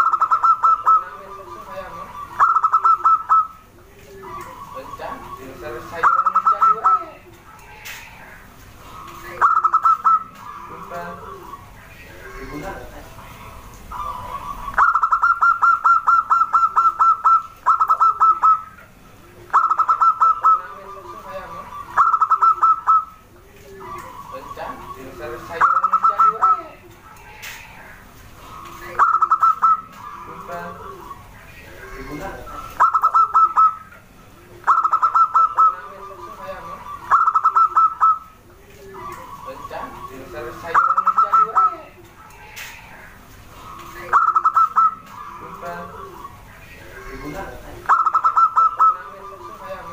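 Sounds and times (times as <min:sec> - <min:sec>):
dove calling rapid notes: 0:00.0 - 0:49.9.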